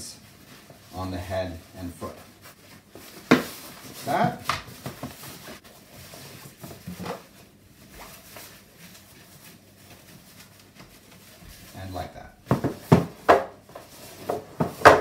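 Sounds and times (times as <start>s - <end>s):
fabric rustling: 0.0s - 12.1s.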